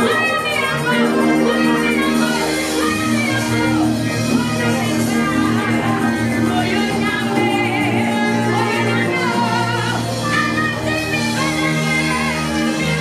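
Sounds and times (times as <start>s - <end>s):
band playing gospel music: 0.0s - 13.0s
held bass notes: 0.0s - 13.0s
woman singing into a microphone: 0.0s - 13.0s.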